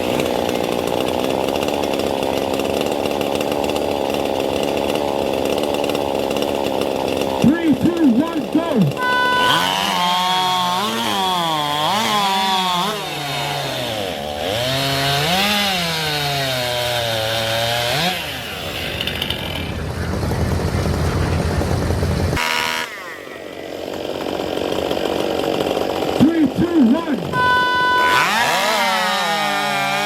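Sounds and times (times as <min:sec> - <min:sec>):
chainsaw cutting log: 0:00.0 - 0:30.0.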